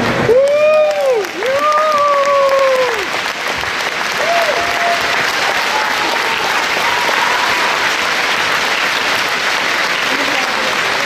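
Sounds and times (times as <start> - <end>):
crowd applauding: 0.0 - 11.0
crowd cheering: 0.0 - 11.0.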